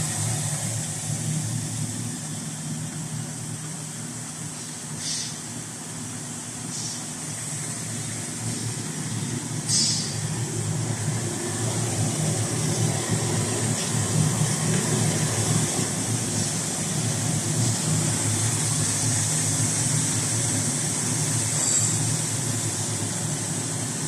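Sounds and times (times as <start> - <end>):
induction heating machine humming: 0.0 - 24.0.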